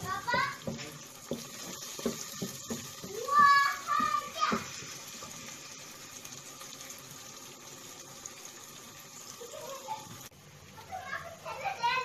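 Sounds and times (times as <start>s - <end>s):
onions sizzling in hot fat: 0.0s - 12.0s.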